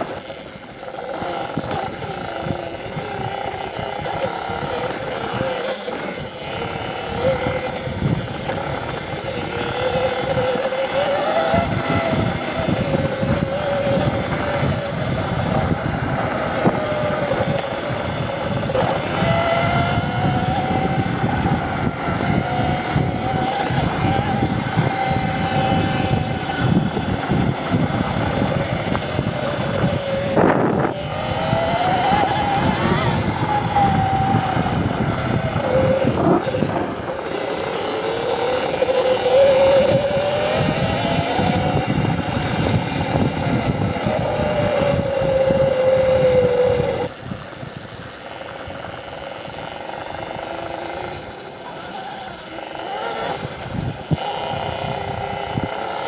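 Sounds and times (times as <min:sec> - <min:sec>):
electric motor whine: 0:00.0 - 0:56.0
wind and terrain noise: 0:00.0 - 0:56.0.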